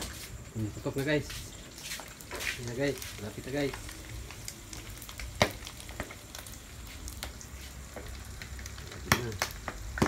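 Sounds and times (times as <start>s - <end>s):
frying in hot oil: 0.0s - 10.0s
oil popping: 0.0s - 10.0s.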